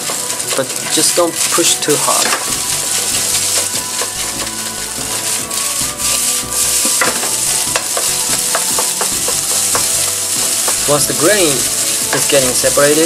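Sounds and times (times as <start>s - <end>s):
ladle scraping pan: 0.0s - 13.0s
rice sizzling in oil: 0.0s - 13.0s.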